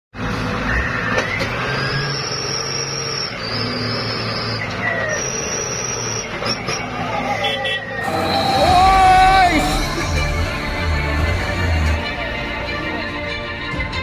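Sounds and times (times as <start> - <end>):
heavy diesel engines running: 0.1 - 14.0.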